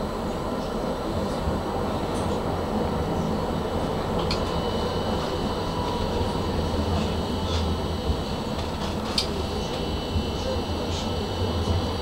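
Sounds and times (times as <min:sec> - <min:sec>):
faint high whine: 0:00.0 - 0:12.0
tram wheels rumbling: 0:00.0 - 0:12.0.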